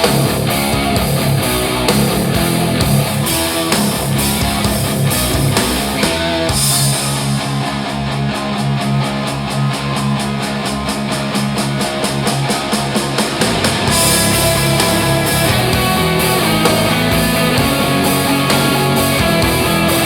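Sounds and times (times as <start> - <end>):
rock music with guitar: 0.0 - 20.0.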